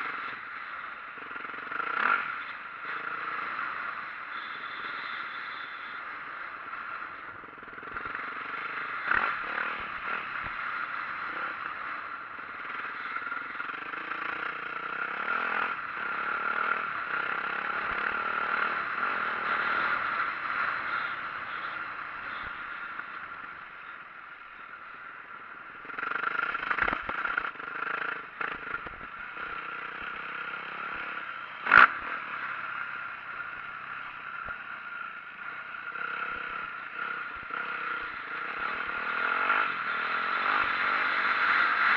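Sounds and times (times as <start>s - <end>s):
dirt bike engine revving: 1.2s - 3.9s, 7.7s - 23.0s, 25.8s - 41.9s.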